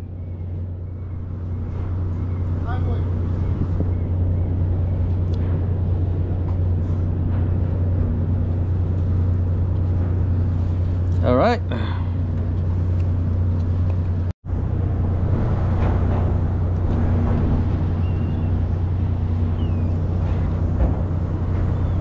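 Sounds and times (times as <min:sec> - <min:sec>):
boat engine low hum: 0:00.0 - 0:22.0.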